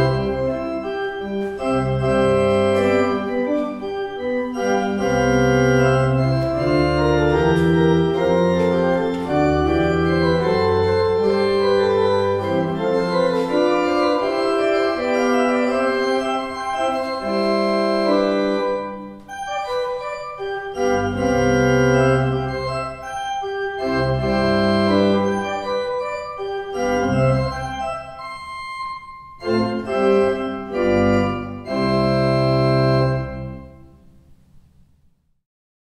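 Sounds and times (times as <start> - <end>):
pipe organ chords: 0.0 - 34.2.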